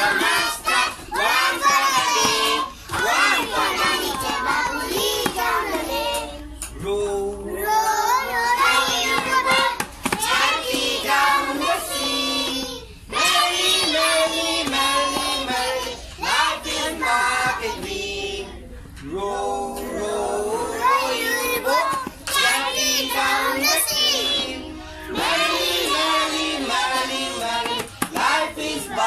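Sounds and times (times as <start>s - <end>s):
children singing: 0.0s - 29.0s.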